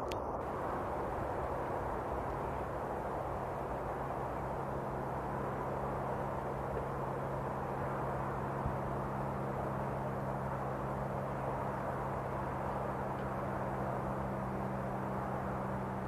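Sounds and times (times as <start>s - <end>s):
diesel locomotive drone: 0.0s - 16.0s.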